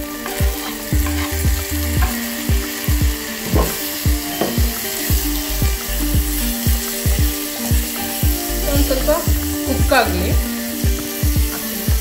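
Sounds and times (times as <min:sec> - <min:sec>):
music with steady beat: 0:00.0 - 0:12.0
vegetables sizzling in a pot: 0:00.0 - 0:12.0
wooden spatula stirring: 0:00.0 - 0:12.0.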